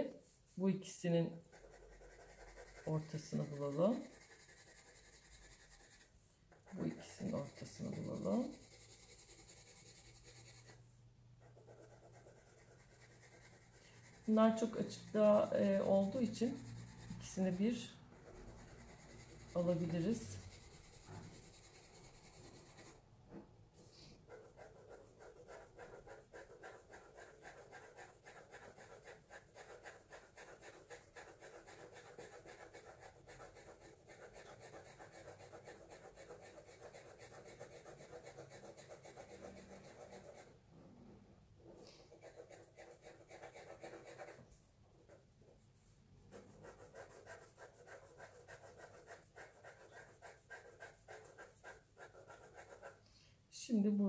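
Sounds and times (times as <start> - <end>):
pencil scratching on paper: 1.4 - 10.8, 11.4 - 23.0, 23.8 - 40.6, 41.9 - 45.3, 46.2 - 53.0.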